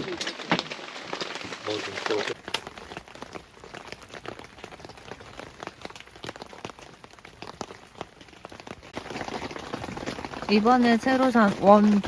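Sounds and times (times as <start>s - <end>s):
rain falling: 0.0s - 12.0s
raindrops ticking on surface: 0.0s - 12.0s.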